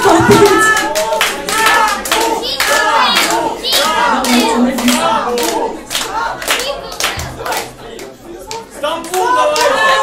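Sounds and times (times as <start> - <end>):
audience clapping: 0.0 - 10.0.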